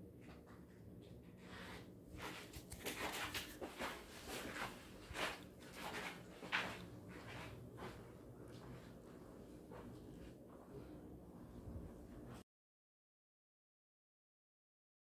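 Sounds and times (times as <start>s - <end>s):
soft footsteps on floor: 0.3s - 12.4s.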